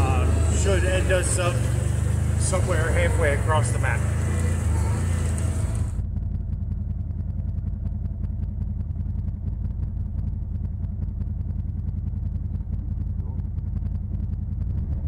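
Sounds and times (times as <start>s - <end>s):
engine running with low drone: 0.0s - 15.0s.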